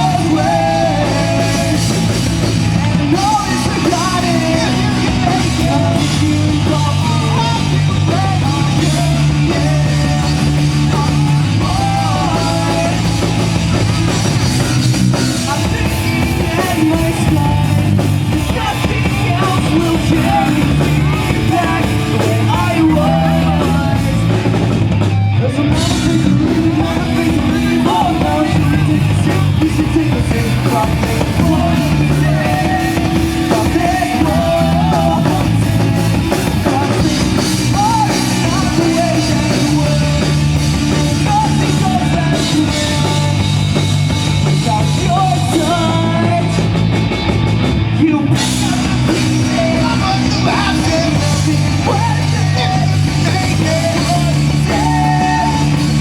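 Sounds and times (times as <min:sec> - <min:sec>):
person singing: 0:00.0 - 0:13.9, 0:15.2 - 0:24.6, 0:25.4 - 0:43.7, 0:48.0 - 0:56.0
rock band playing: 0:00.0 - 0:56.0.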